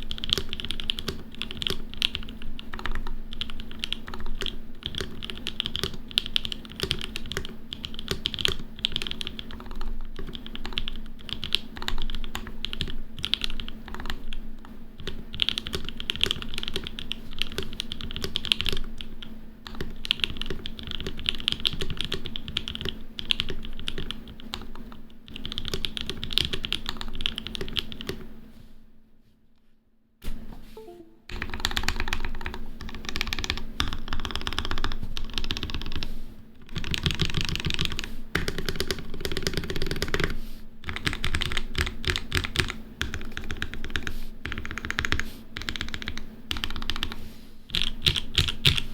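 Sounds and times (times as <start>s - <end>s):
fast typing on mechanical keyboard: 0.0s - 28.3s, 31.3s - 48.9s
faint steady hum: 0.0s - 48.9s.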